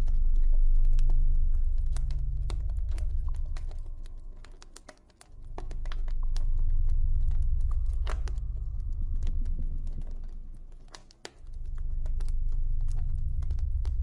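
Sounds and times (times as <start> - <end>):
low rumble: 0.0 - 14.0
campfire crackling and popping: 0.4 - 14.0.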